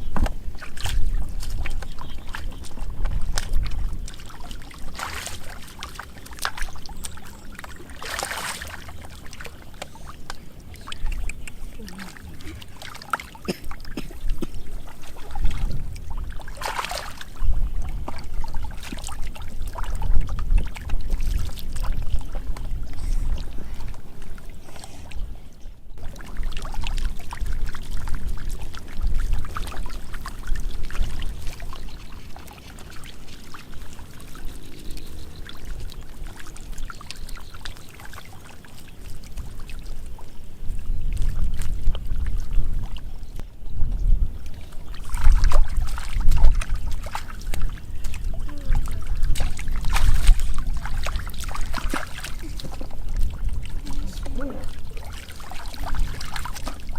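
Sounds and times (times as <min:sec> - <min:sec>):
water splashing and sloshing: 0:00.0 - 0:56.9.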